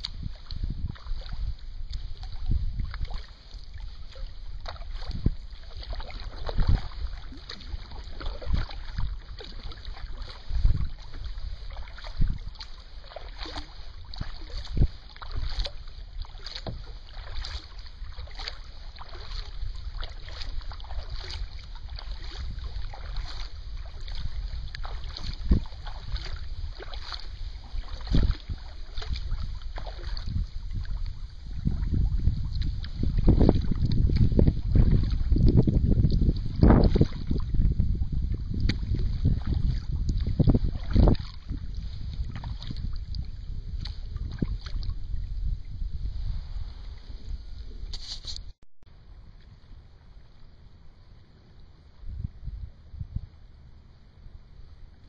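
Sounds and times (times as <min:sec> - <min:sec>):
low thumps on kayak hull: 0:00.0 - 0:46.0
paddle splashing water: 0:00.0 - 0:55.0
wind rumble on microphone: 0:00.0 - 0:55.0.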